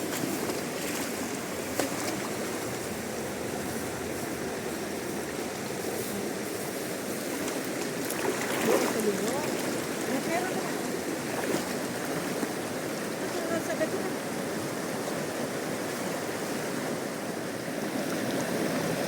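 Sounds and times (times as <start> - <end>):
fast river water rushing: 0.0 - 19.0.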